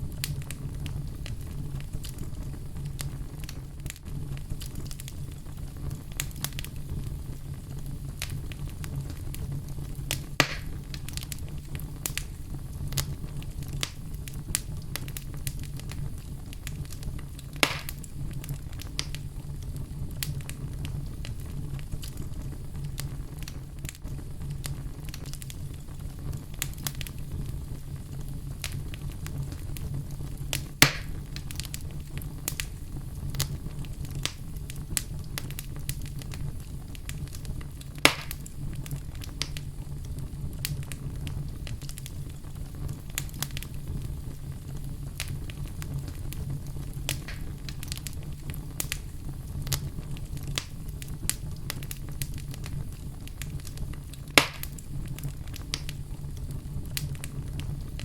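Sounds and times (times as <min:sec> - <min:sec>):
loud pops of fire: 0:00.0 - 0:58.0
wood fire crackling: 0:00.0 - 0:58.0.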